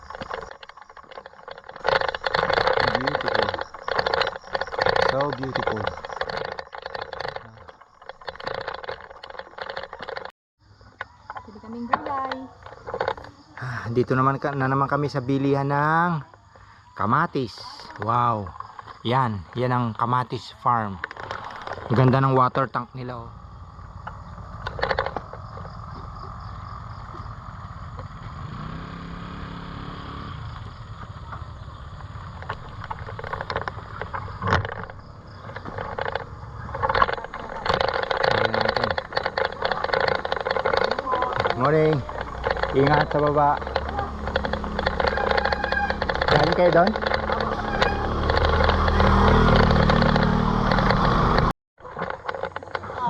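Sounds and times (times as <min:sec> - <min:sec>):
clicks and rattles: 0:00.0 - 0:16.4, 0:17.5 - 0:23.2, 0:23.8 - 0:28.1, 0:32.1 - 0:53.0
engine-like hum: 0:00.0 - 0:53.0.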